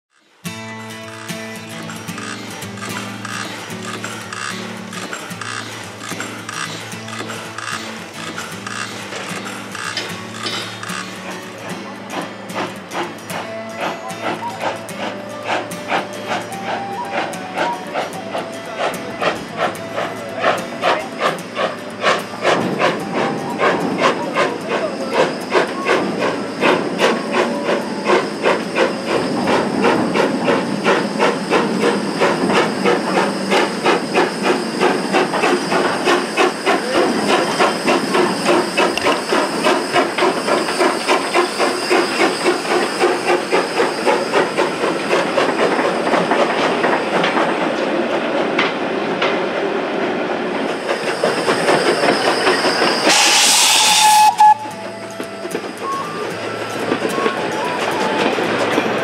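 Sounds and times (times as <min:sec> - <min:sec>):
steam hissing: 0:00.1 - 0:59.0
steam locomotive chuffing: 0:00.1 - 0:59.0.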